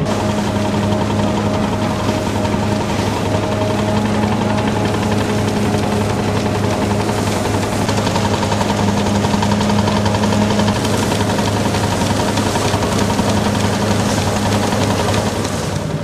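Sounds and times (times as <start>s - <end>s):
rapid machine clatter: 0.0s - 16.0s
threshing machine hum: 0.0s - 16.0s.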